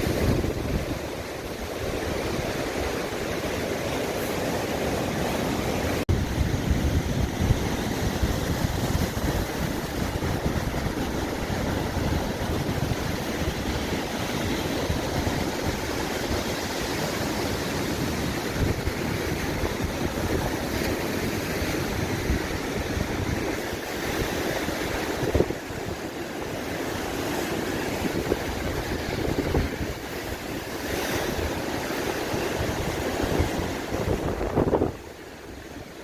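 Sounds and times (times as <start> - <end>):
sea waves breaking on shore: 0.0 - 36.0
wind buffeting microphone: 0.0 - 36.0.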